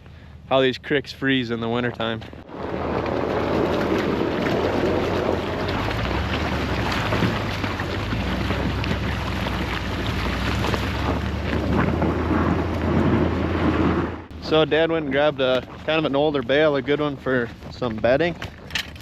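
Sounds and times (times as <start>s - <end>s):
wind buffeting microphone: 2.0s - 19.0s.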